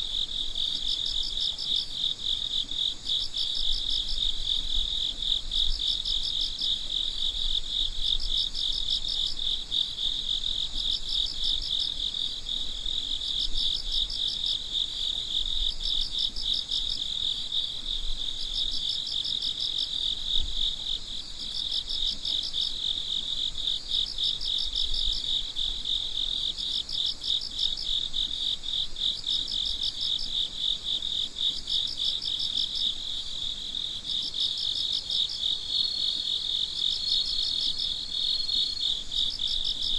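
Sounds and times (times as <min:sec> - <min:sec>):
crickets trilling: 0:00.0 - 0:39.9
higher cricket chirp: 0:00.0 - 0:39.9.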